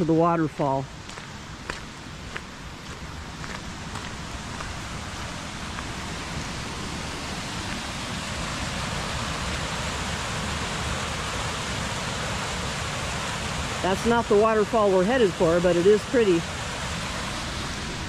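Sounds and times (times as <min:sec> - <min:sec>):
creek water rushing over waterfall: 0:00.0 - 0:18.0.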